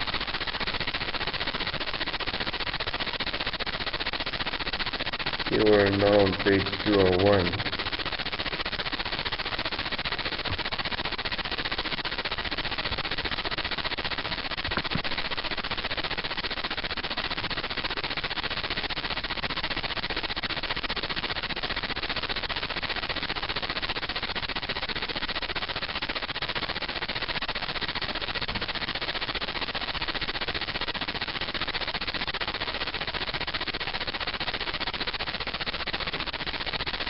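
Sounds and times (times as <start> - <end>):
telephone line hiss: 0.0 - 37.0.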